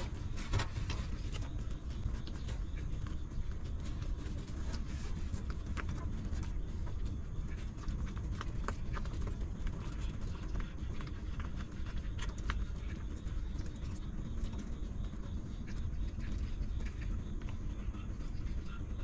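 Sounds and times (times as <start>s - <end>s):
puppies suckling: 0.0s - 19.0s.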